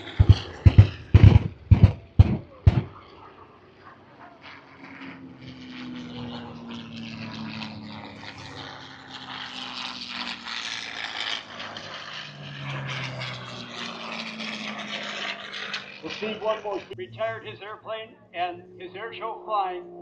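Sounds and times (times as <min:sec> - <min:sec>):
airplane piston engine in flight: 0:00.0 - 0:20.0.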